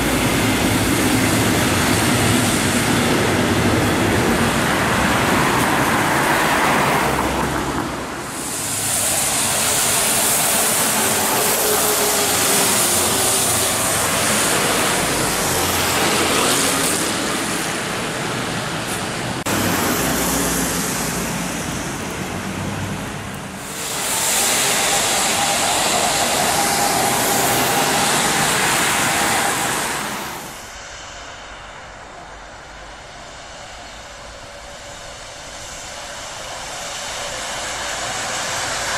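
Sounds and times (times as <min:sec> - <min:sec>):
tyres hissing on wet road: 0:00.0 - 0:38.9
vehicle engine noise: 0:00.0 - 0:38.9.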